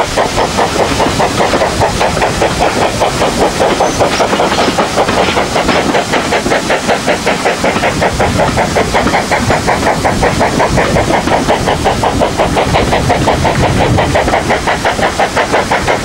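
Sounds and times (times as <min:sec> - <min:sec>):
steam train chugging: 0:00.0 - 0:16.0.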